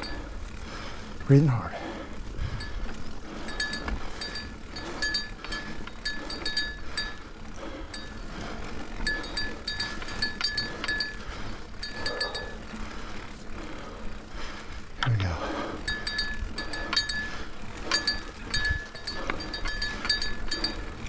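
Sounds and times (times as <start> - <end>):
bike chain clicking and pinging: 0.0 - 21.0
heavy breathing: 0.0 - 21.0.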